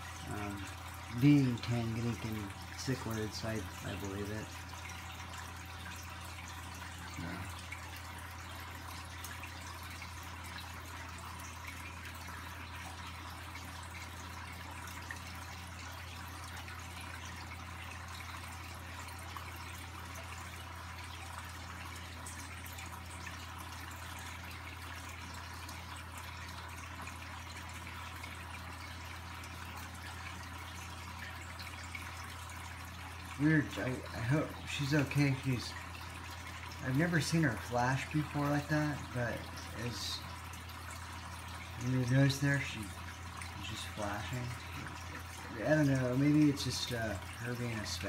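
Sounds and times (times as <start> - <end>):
low equipment hum: 0.0 - 48.0
water trickling and dripping: 0.0 - 48.0.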